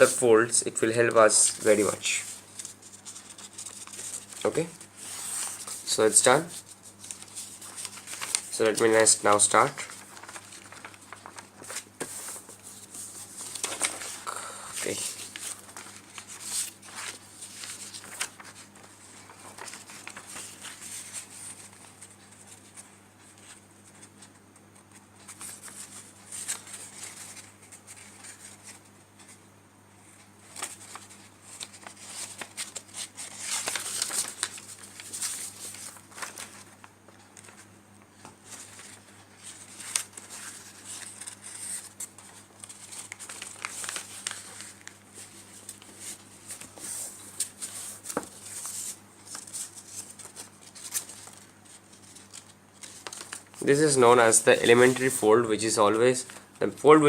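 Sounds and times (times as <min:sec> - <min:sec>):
paper crinkling and rustling: 0:00.8 - 0:29.4, 0:30.2 - 0:57.0.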